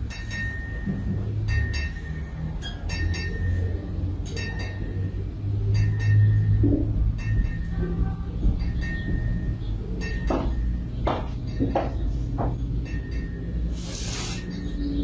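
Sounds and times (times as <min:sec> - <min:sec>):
wind chime clinking: 0:00.0 - 0:08.0, 0:08.6 - 0:15.0
steady low hum: 0:00.0 - 0:15.0.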